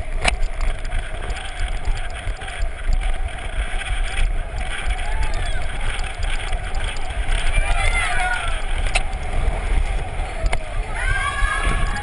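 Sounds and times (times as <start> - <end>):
bike tyres rolling on pavement: 0.0 - 12.0
wind buffeting microphone: 0.0 - 12.0.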